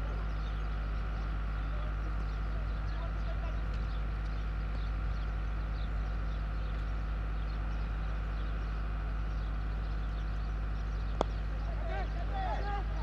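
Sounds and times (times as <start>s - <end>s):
faint bird chirps: 0.0s - 13.0s
faint hum: 0.0s - 13.0s.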